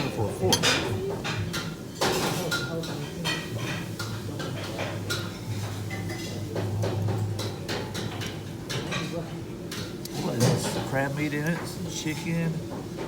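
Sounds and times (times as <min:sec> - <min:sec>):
utensils clinking on dishes: 0:00.0 - 0:13.0.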